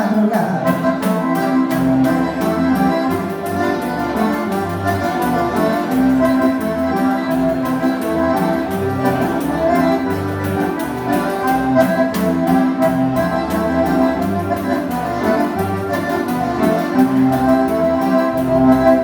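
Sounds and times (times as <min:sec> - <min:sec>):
accordion chords and melody: 0:00.0 - 0:19.0
rhythmic bass line: 0:00.0 - 0:19.0
steady percussion beat: 0:00.0 - 0:19.0.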